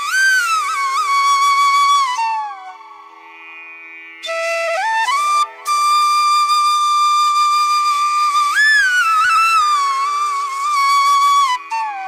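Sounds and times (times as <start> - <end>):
flute playing long notes: 0.0 - 3.2, 4.2 - 12.0.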